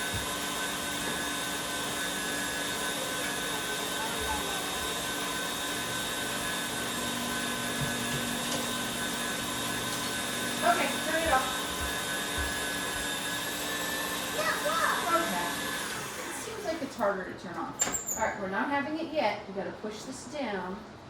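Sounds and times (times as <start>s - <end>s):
electric kitchen mixer running: 0.0s - 17.2s.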